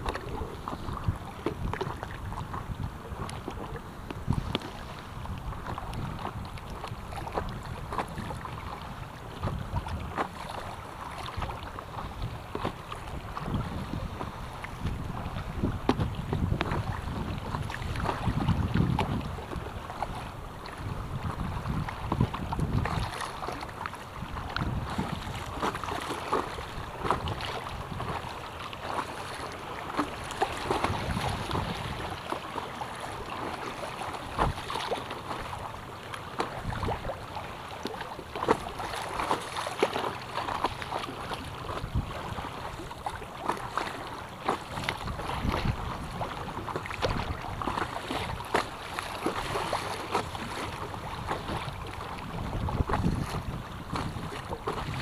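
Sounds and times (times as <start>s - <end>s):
water slapping against board: 0.0s - 20.2s, 21.2s - 55.0s
wind buffeting microphone: 0.0s - 35.7s, 36.4s - 37.2s, 40.6s - 43.9s, 44.5s - 55.0s
river water rushing and splashing: 0.0s - 55.0s.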